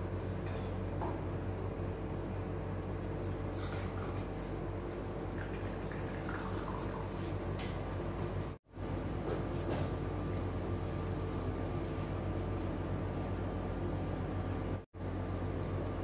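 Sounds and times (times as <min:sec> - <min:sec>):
appliance humming: 0:00.0 - 0:16.0.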